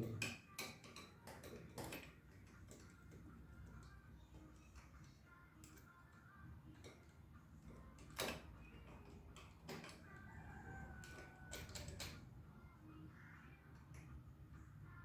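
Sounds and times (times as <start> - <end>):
small parts and tools clicking: 0.0 - 12.5.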